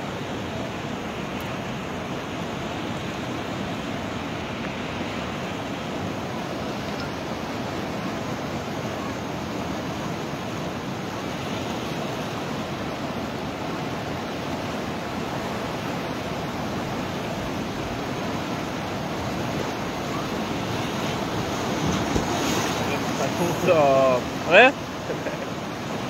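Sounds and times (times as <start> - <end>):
flooded river rushing: 0.0 - 26.0.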